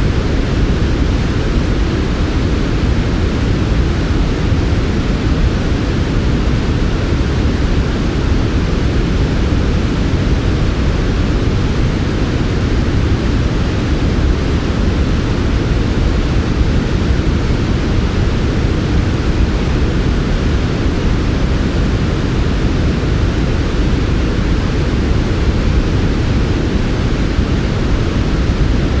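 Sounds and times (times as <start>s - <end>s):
white noise: 0.0s - 29.0s.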